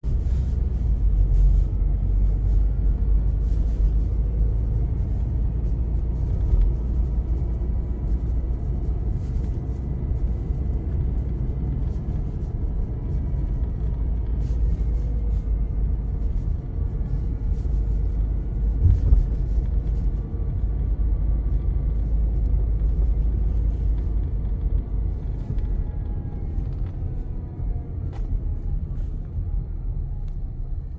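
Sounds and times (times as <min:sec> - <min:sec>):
car engine low rumble: 0:00.0 - 0:30.9.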